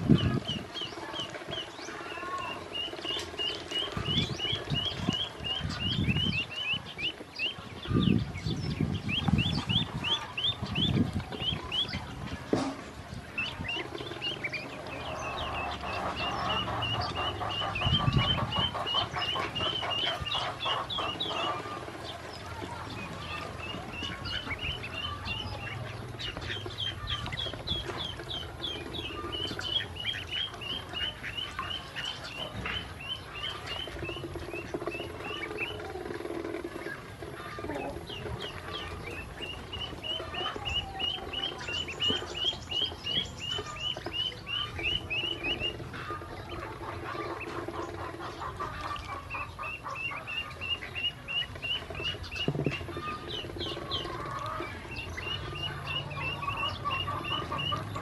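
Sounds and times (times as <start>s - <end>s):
ducklings peeping: 0.0s - 58.0s.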